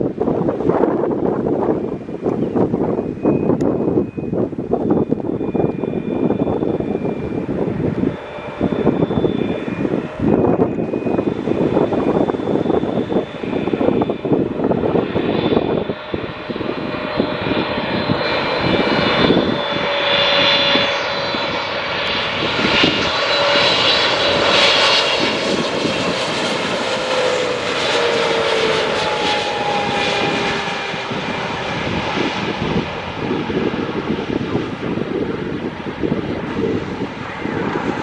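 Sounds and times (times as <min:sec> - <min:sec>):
jet engine roar with whining: 0:00.0 - 0:38.0.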